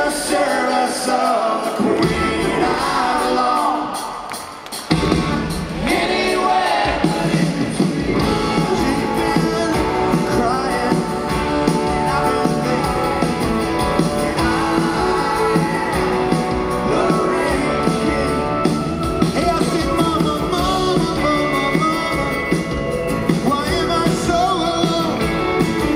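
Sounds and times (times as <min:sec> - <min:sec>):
male lead vocal: 0:00.0 - 0:04.4, 0:05.8 - 0:25.9
live rock band playing: 0:00.0 - 0:25.9.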